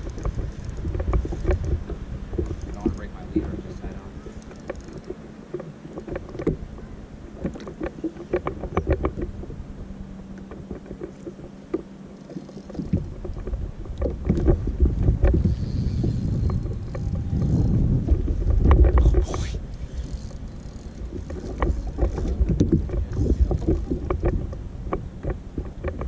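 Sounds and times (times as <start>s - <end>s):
faint steady hum: 0.0s - 26.0s
knocks and clicks on boat: 0.0s - 26.0s
low rumbling noise: 0.0s - 26.0s.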